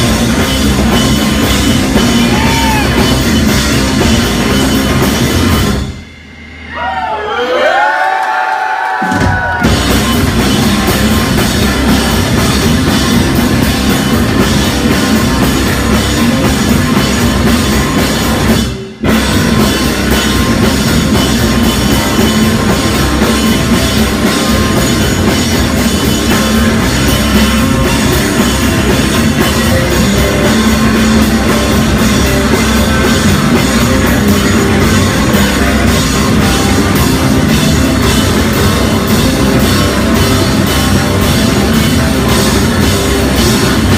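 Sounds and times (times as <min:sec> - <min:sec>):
live rock band playing: 0:00.0 - 0:06.7, 0:09.0 - 0:43.9
drum kit: 0:00.0 - 0:07.8, 0:08.9 - 0:43.9.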